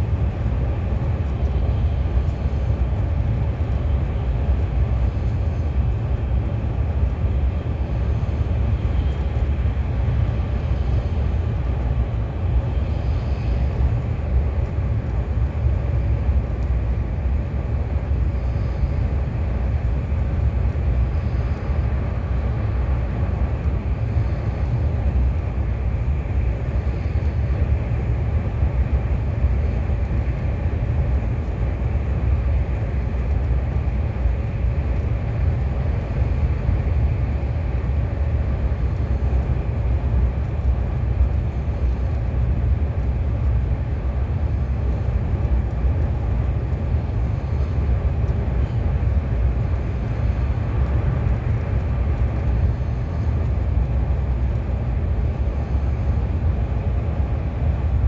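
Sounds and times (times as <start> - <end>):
train low rumble from inside: 0.0 - 58.0.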